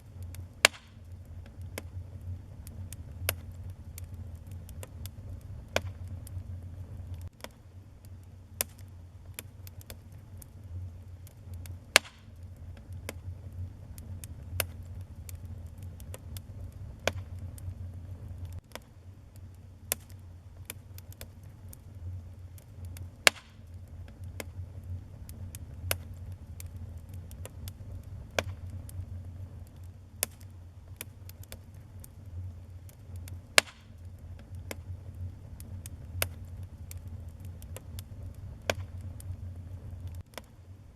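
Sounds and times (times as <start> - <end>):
fire crackling and popping: 0.0 - 40.9
fire rumbling: 0.0 - 40.9.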